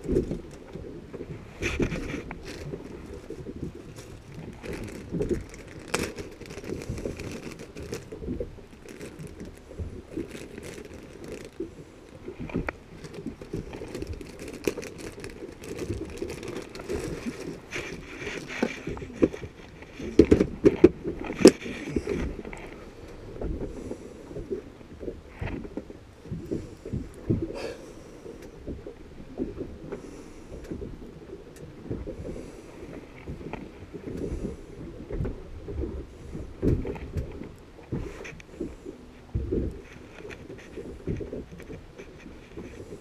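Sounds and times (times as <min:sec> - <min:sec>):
wind and water wash: 0:00.0 - 0:43.0.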